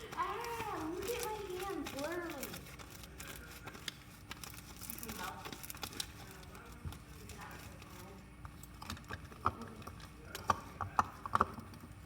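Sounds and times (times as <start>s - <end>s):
slime being kneaded: 0.0s - 12.0s.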